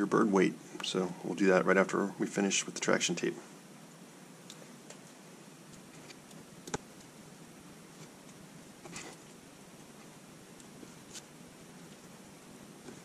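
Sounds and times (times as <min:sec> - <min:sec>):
low room hiss: 0:00.0 - 0:13.0.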